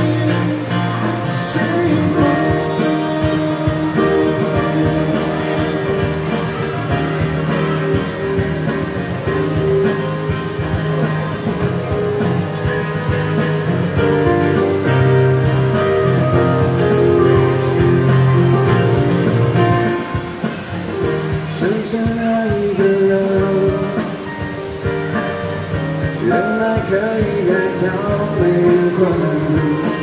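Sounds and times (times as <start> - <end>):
keyboard sustained chords: 0.0 - 30.0
strummed acoustic guitar: 0.0 - 30.0.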